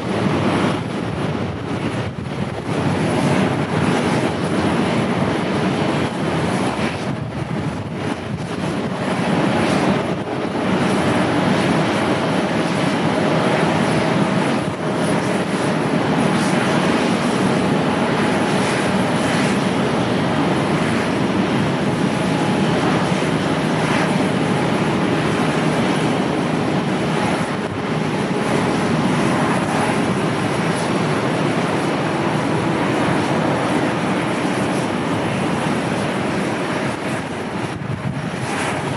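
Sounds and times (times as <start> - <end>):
faint engine whine: 0.0 - 38.9
jet engines rushing: 0.0 - 38.9.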